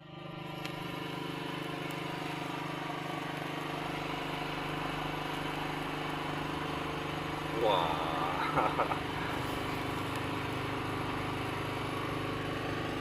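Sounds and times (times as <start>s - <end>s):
engine idling: 0.3s - 13.0s.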